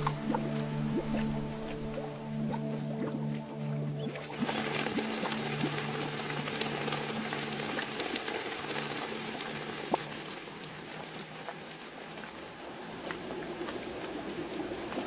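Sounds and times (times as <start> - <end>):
crackling rain-like patter: 0.0 - 15.0.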